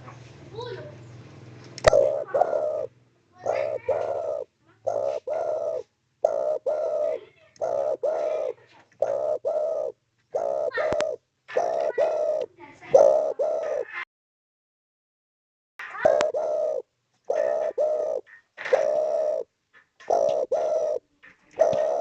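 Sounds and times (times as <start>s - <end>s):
dove cooing: 1.8s - 14.0s, 15.9s - 22.0s.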